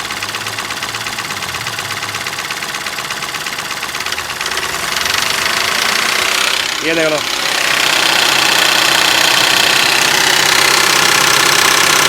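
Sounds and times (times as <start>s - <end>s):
diesel engine ticking knock: 0.0s - 12.0s.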